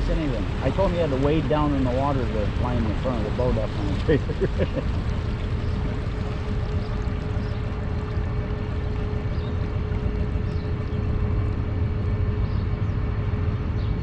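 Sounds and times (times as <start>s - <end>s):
constant whine: 0.0s - 14.0s
engine low rumble: 0.0s - 14.0s.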